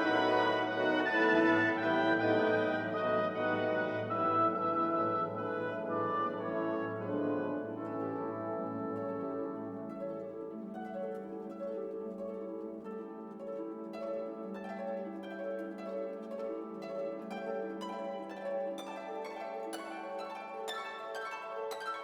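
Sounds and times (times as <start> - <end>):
instrumental music plucked notes: 0.0 - 22.0.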